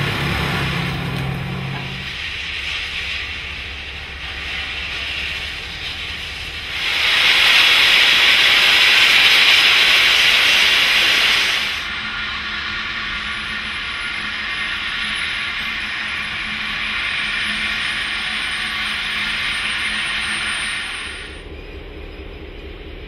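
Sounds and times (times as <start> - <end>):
loud steady hiss: 0.0 - 21.5
steady train noise: 0.0 - 23.0.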